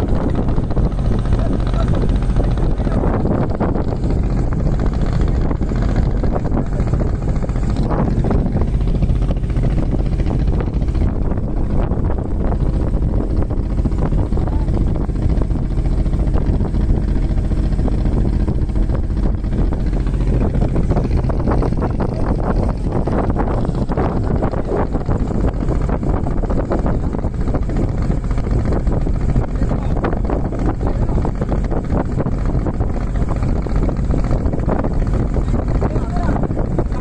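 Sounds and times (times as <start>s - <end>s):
vehicle engine rumble: 0.0s - 37.0s
wind buffeting microphone: 0.0s - 37.0s.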